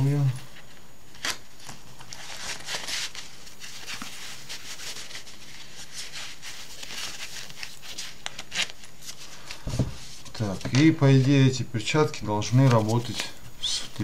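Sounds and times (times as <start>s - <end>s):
glove fabric rustling: 0.1s - 11.3s, 12.4s - 14.0s.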